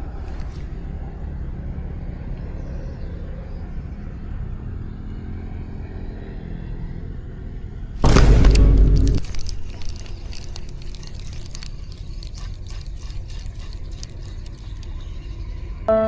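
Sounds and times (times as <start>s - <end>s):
low rumble with engine hum: 0.0s - 16.0s.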